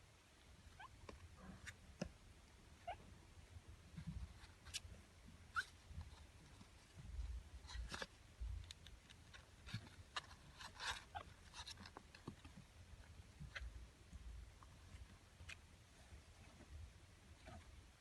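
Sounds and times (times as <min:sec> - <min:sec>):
soft rustles: 0:00.4 - 0:18.0.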